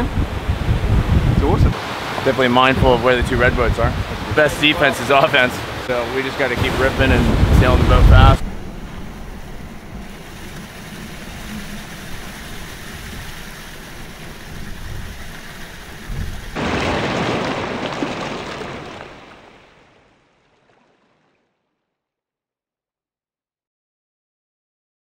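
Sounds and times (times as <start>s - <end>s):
water rushing past a boat: 0.0s - 21.7s
wind: 0.0s - 21.8s.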